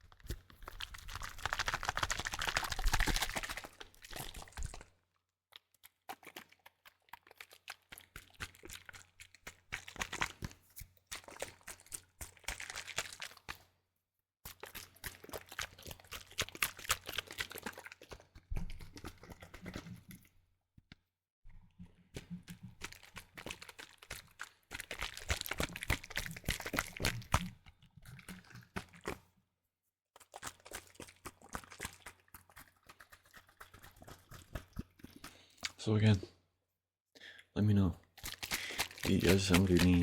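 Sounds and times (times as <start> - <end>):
liquid sloshing in shaken bottle: 0.0 - 13.8, 14.5 - 20.4, 21.5 - 29.4, 30.2 - 35.8, 38.0 - 40.0.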